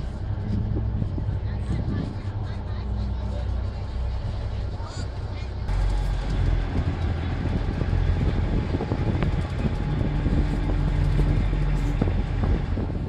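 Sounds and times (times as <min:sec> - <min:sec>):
ferry engine rumbling: 0:00.0 - 0:13.0
wind buffeting microphone: 0:00.0 - 0:13.0.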